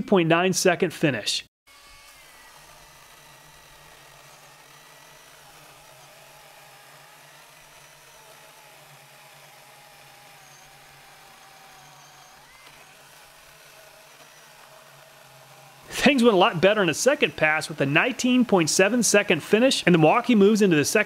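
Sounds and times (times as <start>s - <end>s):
battery chainsaw cutting log: 1.7s - 21.0s.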